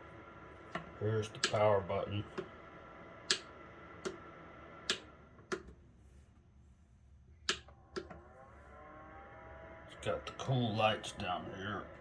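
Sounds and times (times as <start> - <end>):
dehumidifier humming: 0.0 - 12.0.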